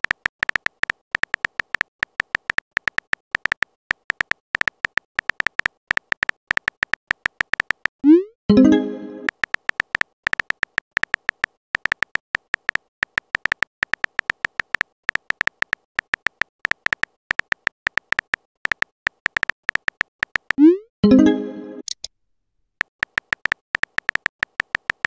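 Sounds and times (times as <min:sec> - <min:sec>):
keyboard tap clicks: 0:00.0 - 0:07.9, 0:09.2 - 0:20.6, 0:22.9 - 0:25.0.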